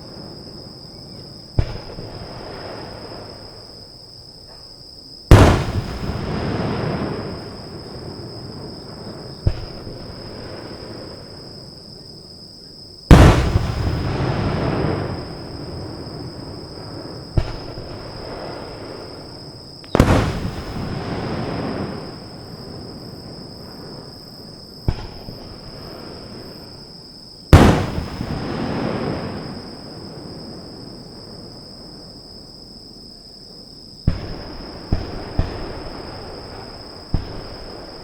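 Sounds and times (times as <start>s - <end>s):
fireworks bangs: 0.0s - 3.8s, 5.3s - 11.7s, 13.1s - 31.5s, 34.0s - 38.0s
rumble of fireworks bursts: 0.0s - 32.2s, 34.0s - 38.0s.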